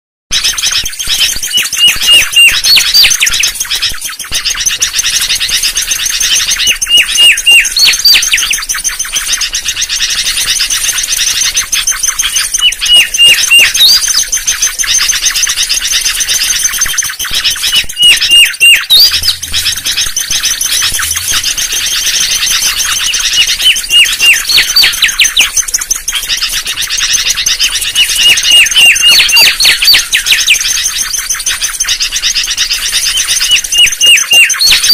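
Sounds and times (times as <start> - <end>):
bird whistling song: 0.3 - 34.9
high twittering: 0.3 - 34.9.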